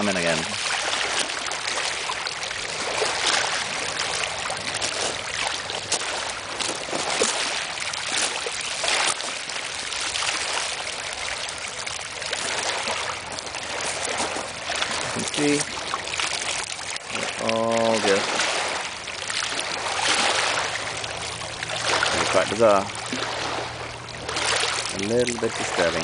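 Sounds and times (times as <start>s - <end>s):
small waves lapping over stones: 0.0s - 26.0s.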